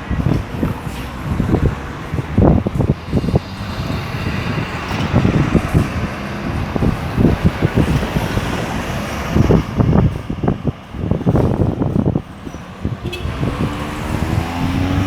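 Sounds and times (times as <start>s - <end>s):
cars and buses passing: 0.0s - 15.0s.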